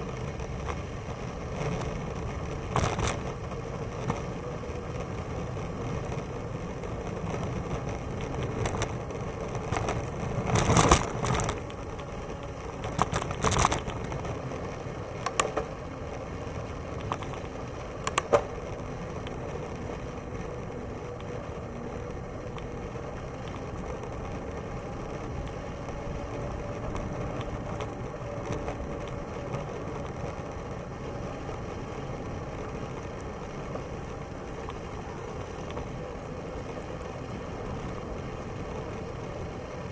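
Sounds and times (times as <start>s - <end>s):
bicycle rattles: 0.0s - 39.9s
bicycle rolling noise: 0.0s - 39.9s.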